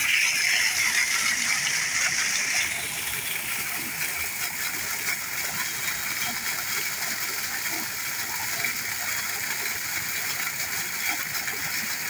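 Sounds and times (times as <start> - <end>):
water splashing in pond: 0.0 - 12.0.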